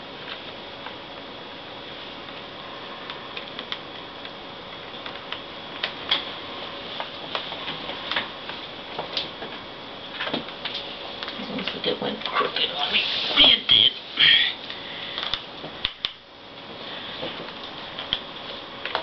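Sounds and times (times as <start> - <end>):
faint background hum: 0.0 - 19.0.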